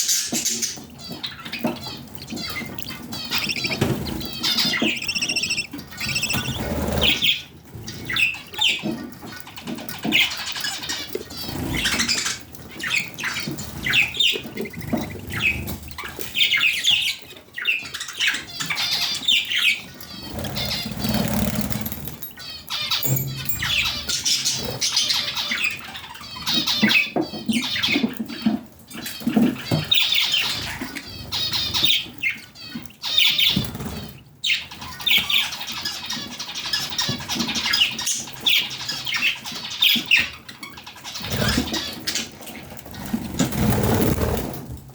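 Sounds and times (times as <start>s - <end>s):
budgerigars chirping and squawking: 0.0s - 44.6s.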